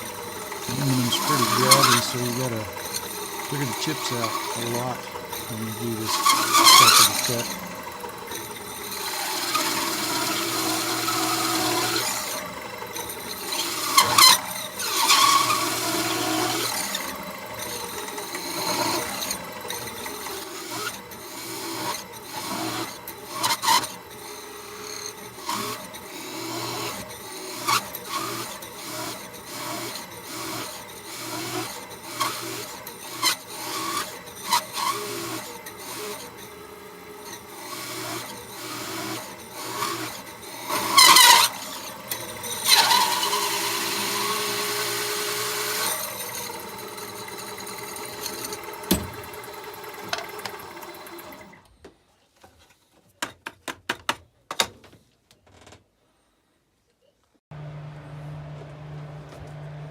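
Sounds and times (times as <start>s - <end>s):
hole saw squealing through metal: 0.0s - 36.6s, 37.2s - 49.3s.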